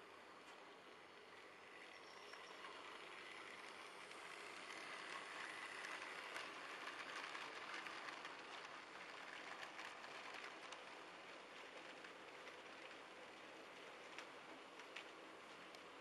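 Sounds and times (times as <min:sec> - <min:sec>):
model train motor whir: 0:00.1 - 0:16.0.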